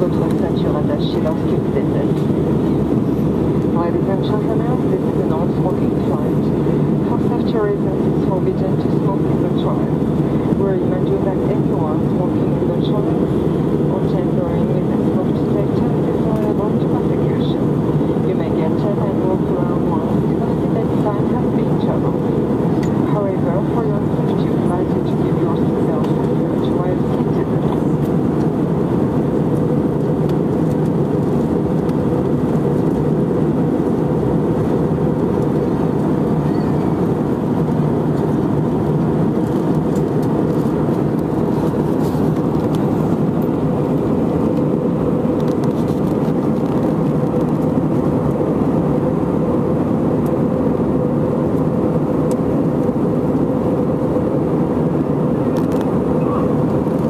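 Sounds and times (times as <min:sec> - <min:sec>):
airliner cabin roar: 0:00.0 - 0:57.0.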